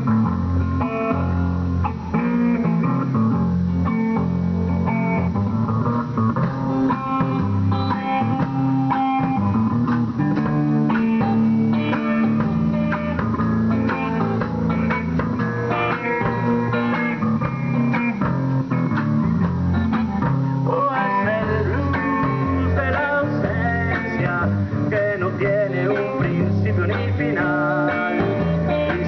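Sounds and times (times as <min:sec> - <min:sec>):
drum kit: 0:00.0 - 0:29.0
electric guitar playing: 0:00.0 - 0:29.0.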